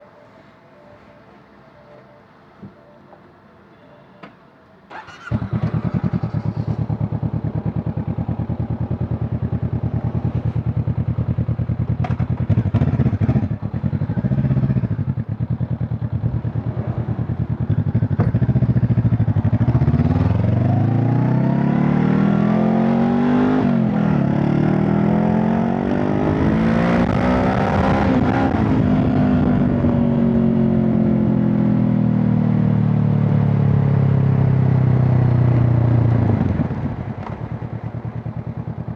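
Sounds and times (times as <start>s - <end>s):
motorcycle engine starting: 4.9s - 31.4s, 33.9s - 38.9s
motorcycle engine idling and revving: 4.9s - 38.9s
motorcycle pulling away: 4.9s - 38.9s.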